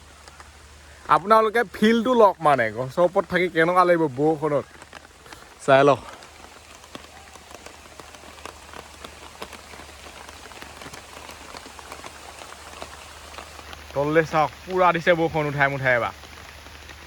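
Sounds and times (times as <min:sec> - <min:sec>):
rain hissing: 0:00.0 - 0:17.0
raindrop ticks: 0:00.0 - 0:17.0.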